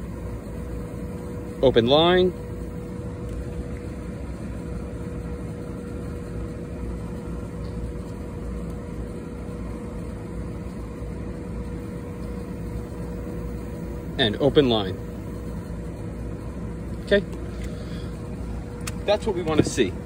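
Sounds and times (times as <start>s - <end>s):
machinery droning: 0.0s - 20.0s.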